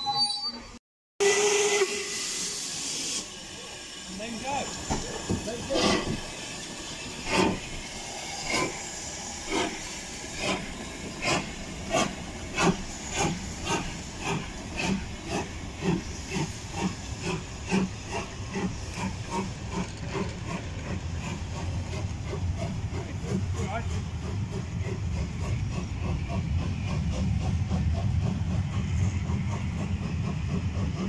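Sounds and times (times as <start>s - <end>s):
steady hiss of steam: 1.2s - 31.0s
steam locomotive exhaust beats: 1.2s - 31.0s.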